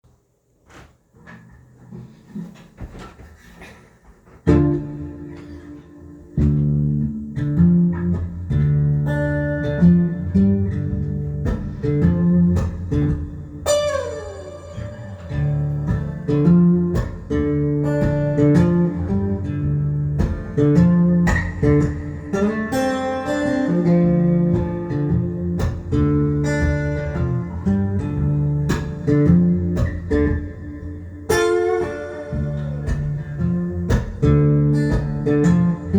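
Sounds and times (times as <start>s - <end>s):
acoustic guitar blues: 4.2s - 35.9s.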